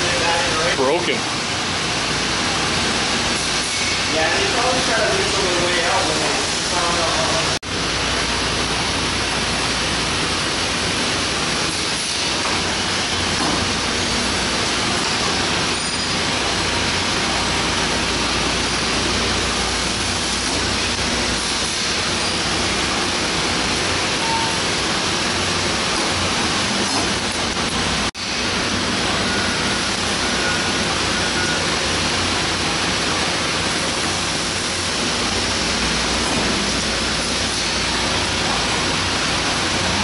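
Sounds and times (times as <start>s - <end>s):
industrial rushing roar: 0.0s - 40.0s.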